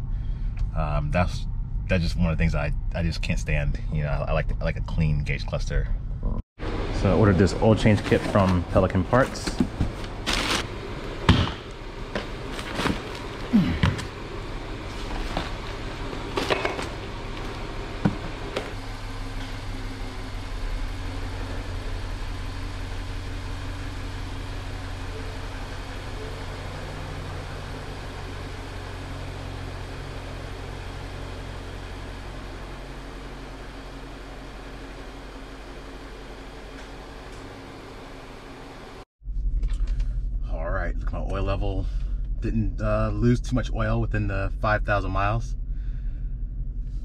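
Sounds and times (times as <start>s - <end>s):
car engine running: 0.0s - 47.0s.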